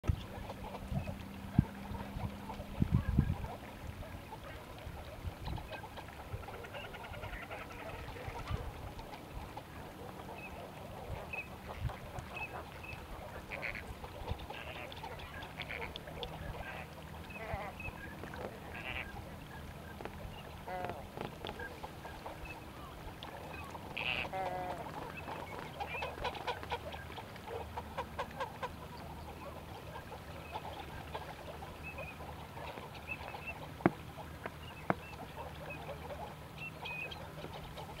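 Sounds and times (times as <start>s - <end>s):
flamingos and ducks calling: 0.1s - 38.0s.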